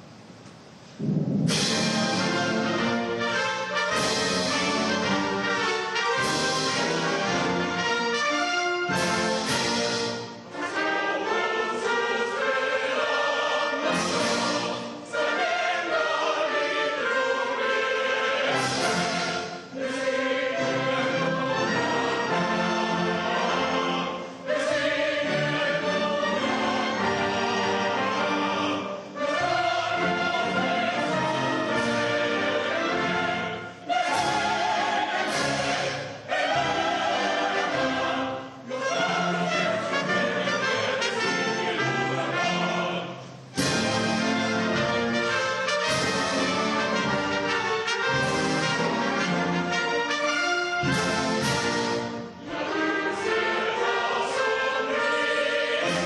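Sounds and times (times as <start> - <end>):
symphony orchestra: 0.0 - 56.0
choir singing: 1.5 - 56.0.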